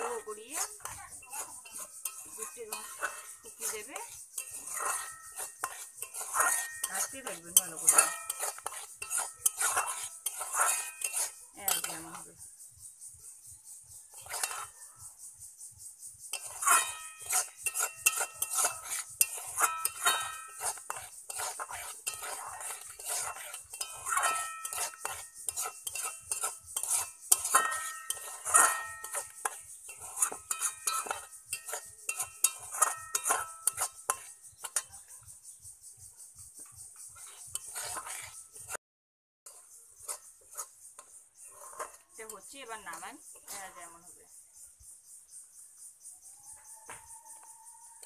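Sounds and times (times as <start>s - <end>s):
spatula scraping metal pan: 0.0s - 12.3s, 14.1s - 14.9s, 16.3s - 35.2s, 36.6s - 38.8s, 39.5s - 43.9s.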